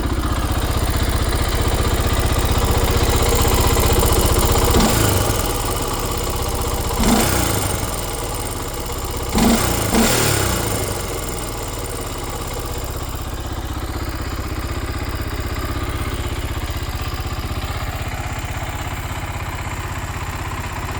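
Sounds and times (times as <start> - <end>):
atv engine revving and idling: 0.0 - 20.9.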